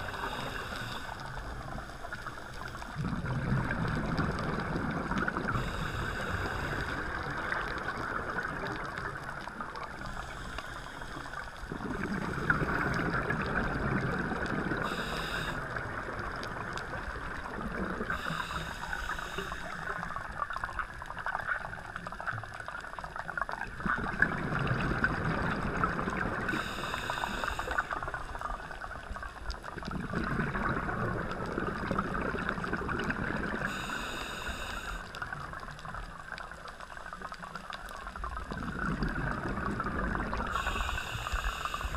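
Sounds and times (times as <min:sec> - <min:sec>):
underwater crackling hiss: 0:00.0 - 0:23.5, 0:24.1 - 0:41.9.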